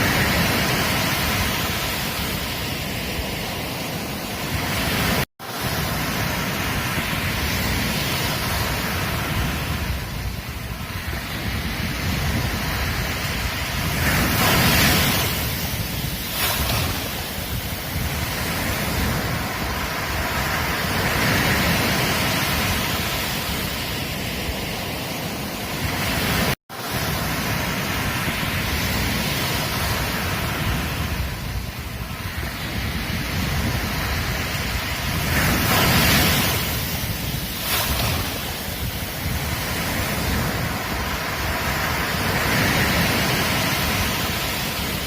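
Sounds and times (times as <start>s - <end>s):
ocean surf breaking on beach: 0.0s - 45.0s
wind buffeting microphone: 0.0s - 45.0s.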